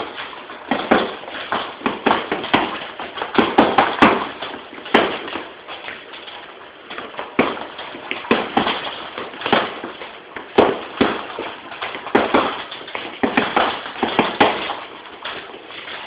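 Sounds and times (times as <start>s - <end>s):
sharp slaps and smacks: 0.0s - 16.0s.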